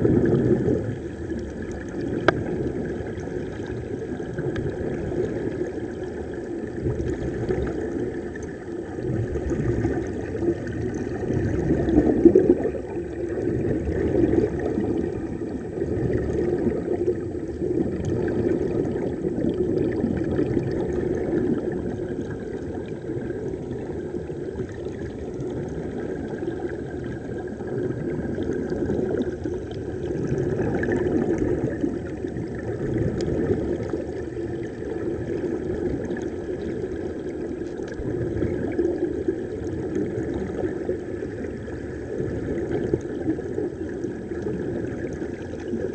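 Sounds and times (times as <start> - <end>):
muffled underwater water rushing: 0.0 - 45.9.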